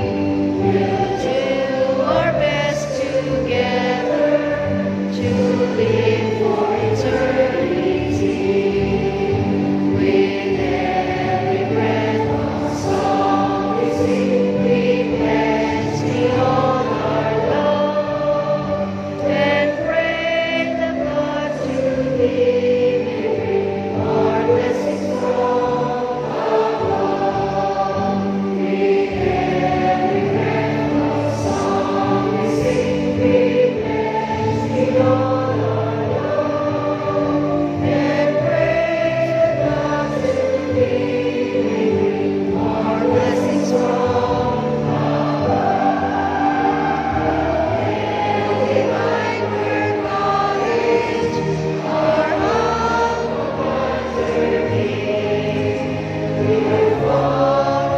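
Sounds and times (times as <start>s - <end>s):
large group singing a hymn: 0.0s - 57.9s.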